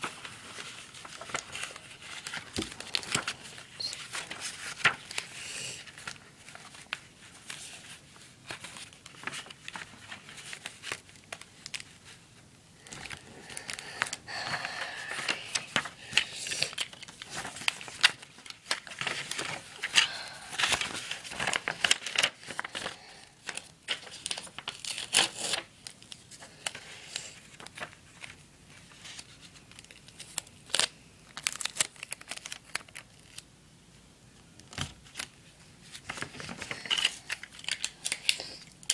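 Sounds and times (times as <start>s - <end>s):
paper rustling and crinkling: 0.0s - 33.4s, 34.6s - 38.9s.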